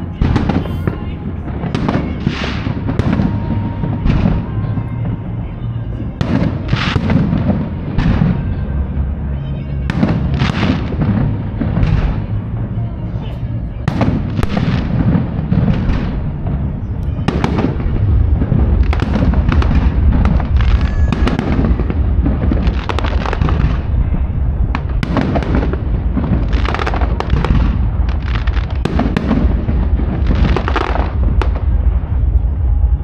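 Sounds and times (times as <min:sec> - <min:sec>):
firework bangs and crackles: 0:00.0 - 0:33.0
low rumble: 0:00.0 - 0:33.0.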